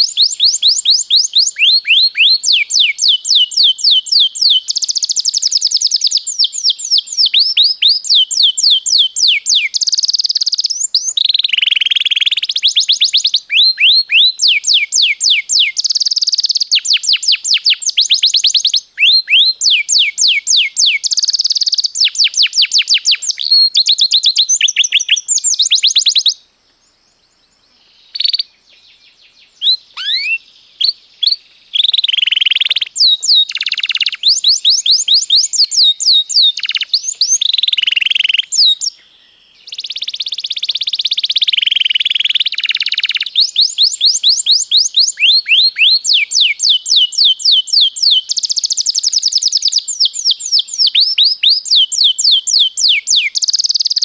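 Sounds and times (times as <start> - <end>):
canary singing trills: 0.0 - 26.4, 27.8 - 54.0.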